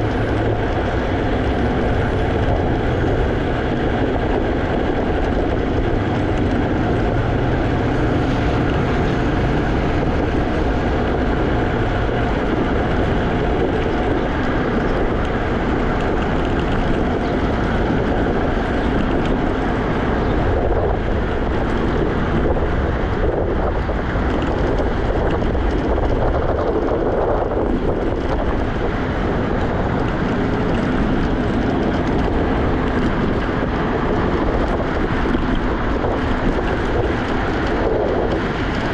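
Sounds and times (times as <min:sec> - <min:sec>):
electric scooter rolling rumble: 0:00.0 - 0:38.9
wind on microphone: 0:00.0 - 0:38.9.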